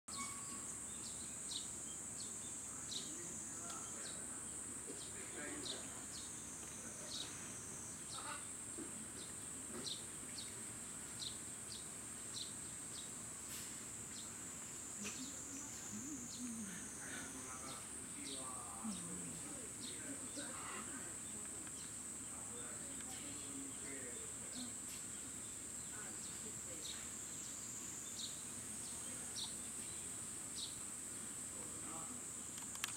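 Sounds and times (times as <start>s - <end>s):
faint distant voices: 0.1s - 12.1s, 13.4s - 32.9s
insects droning: 0.1s - 32.9s.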